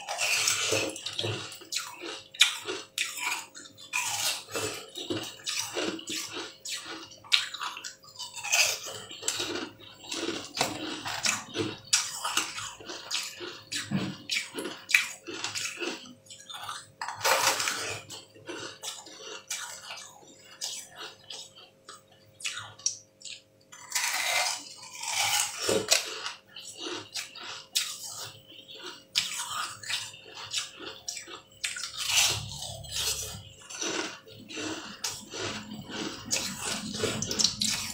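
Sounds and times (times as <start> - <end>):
ice crunching while chewing: 0.0 - 37.9.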